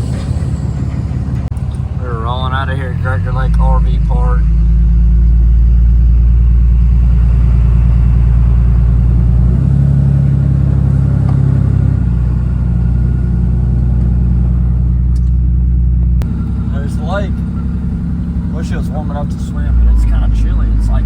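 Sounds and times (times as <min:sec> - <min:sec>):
diesel pickup engine under load: 0:00.0 - 0:21.0.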